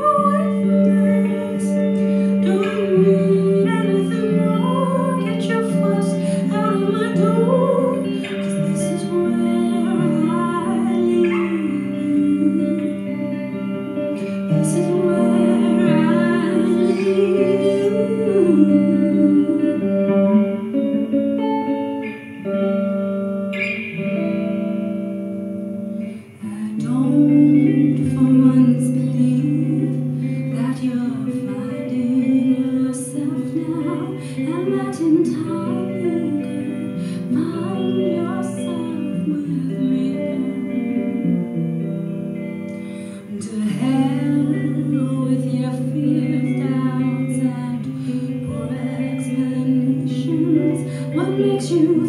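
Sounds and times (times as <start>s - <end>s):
woman singing: 0.0s - 22.8s, 25.9s - 52.0s
electric guitar: 0.0s - 52.0s.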